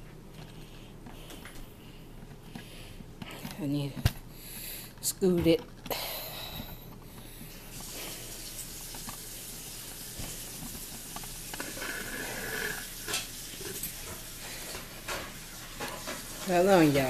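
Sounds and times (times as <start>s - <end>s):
room noise hiss: 0.0s - 17.0s.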